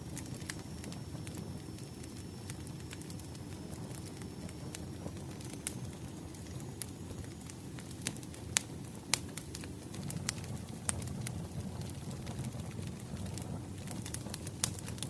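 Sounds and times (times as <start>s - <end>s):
firewood crackling: 0.0s - 15.0s.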